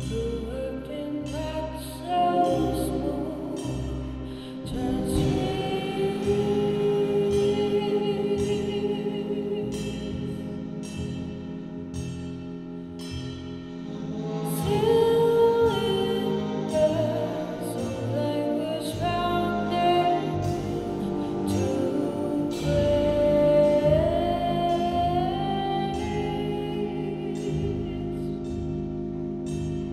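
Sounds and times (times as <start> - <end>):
person singing with vibrato: 0.0 - 11.4, 13.9 - 28.7
live band music: 0.0 - 29.9
low bass pulse: 0.0 - 29.9.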